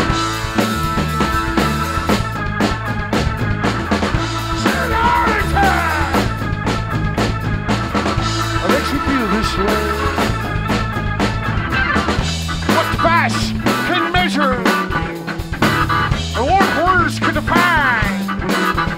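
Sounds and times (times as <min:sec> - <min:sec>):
drum kit with cymbals: 0:00.0 - 0:18.9
electric bass: 0:00.0 - 0:18.9.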